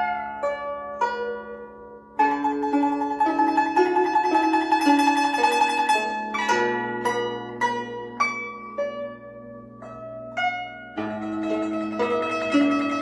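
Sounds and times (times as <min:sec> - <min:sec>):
guzheng plucked notes: 0:00.0 - 0:13.0.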